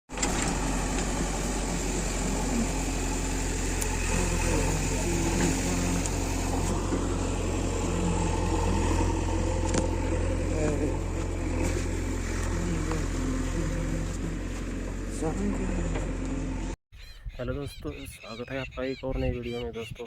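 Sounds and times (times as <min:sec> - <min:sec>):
heavy machinery diesel engine: 0:00.1 - 0:16.8.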